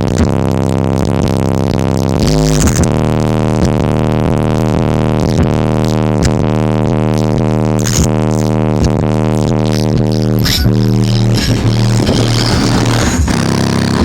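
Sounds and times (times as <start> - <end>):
bass-heavy music through subwoofers: 0.0 - 14.0.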